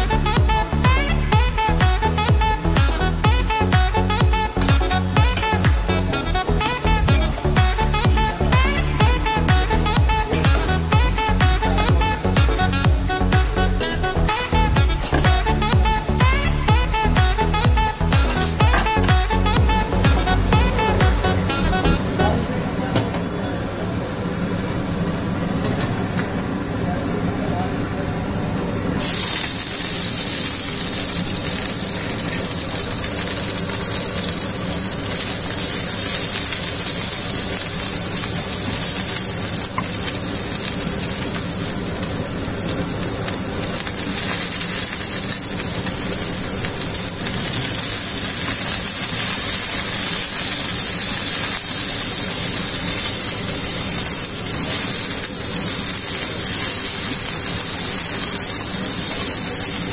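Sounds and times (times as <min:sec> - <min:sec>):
chillies sizzling in hot oil: 0:00.0 - 0:22.3, 0:29.0 - 0:59.9.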